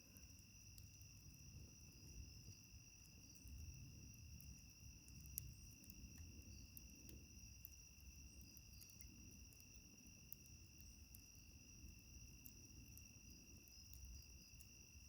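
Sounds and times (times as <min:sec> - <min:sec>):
wood fire crackling: 0:00.0 - 0:14.8
night insects trilling: 0:00.0 - 0:15.0.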